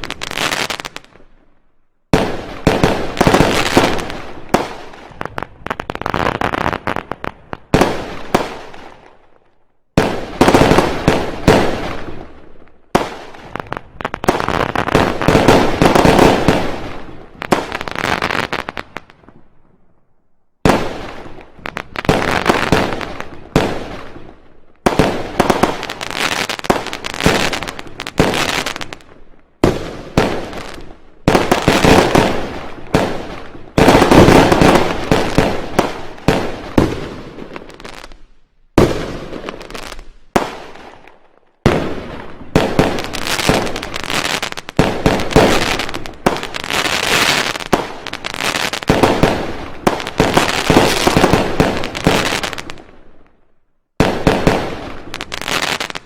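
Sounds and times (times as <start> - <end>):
fireworks bangs and crackles: 0.0 - 20.0, 20.6 - 56.0.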